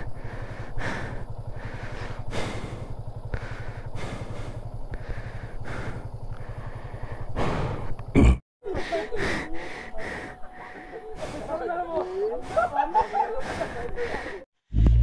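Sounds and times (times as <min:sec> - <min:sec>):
motorcycle engine idling: 0:00.0 - 0:08.2, 0:09.5 - 0:14.4.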